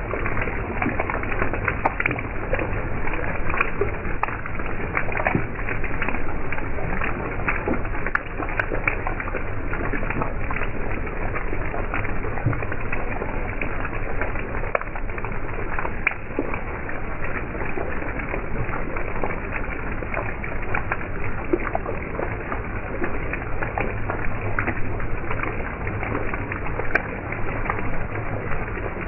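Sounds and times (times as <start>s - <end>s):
raindrops splashing in water: 0.0s - 29.0s.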